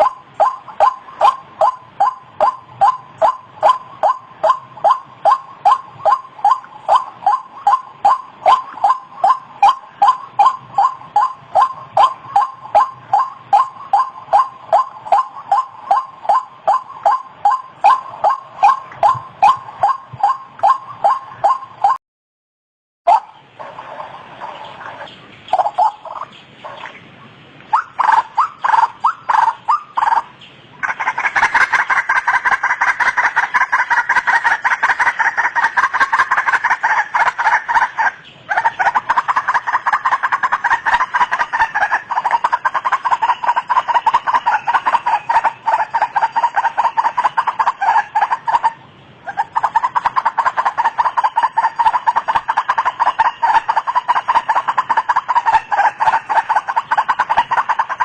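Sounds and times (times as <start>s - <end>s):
waterhen calling: 0.0s - 22.0s, 23.1s - 58.0s.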